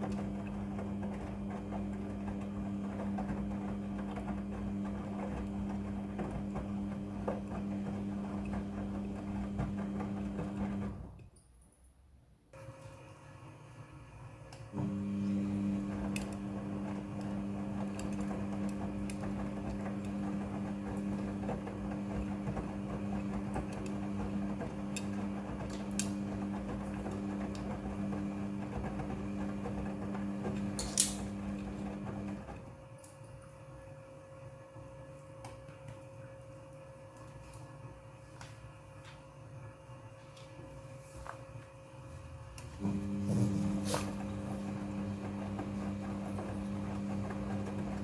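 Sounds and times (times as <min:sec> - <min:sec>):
washing machine motor humming: 0:00.0 - 0:11.2, 0:12.6 - 0:48.0.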